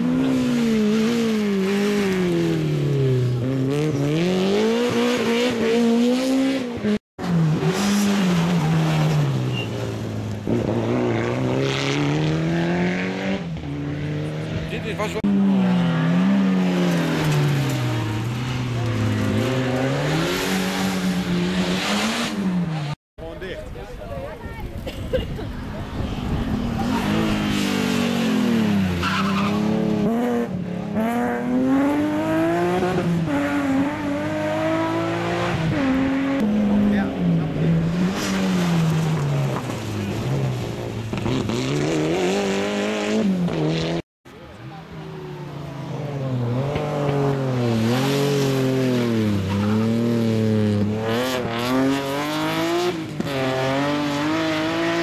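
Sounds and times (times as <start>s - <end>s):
rally car engine revving: 0.0s - 23.0s, 25.7s - 44.0s, 44.7s - 55.0s.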